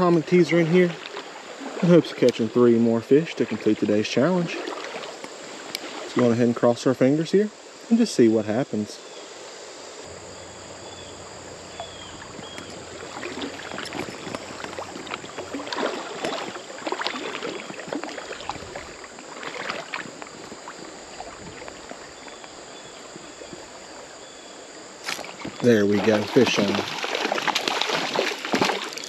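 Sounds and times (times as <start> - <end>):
water splashing and sloshing: 0.0 - 6.7, 10.1 - 24.1, 24.9 - 29.0
shallow creek water running: 0.0 - 29.0.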